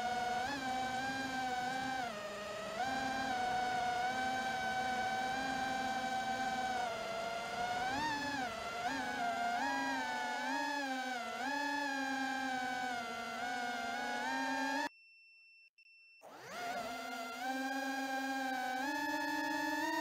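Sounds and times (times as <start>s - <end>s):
drone motors whining: 0.0s - 14.9s, 16.2s - 20.0s.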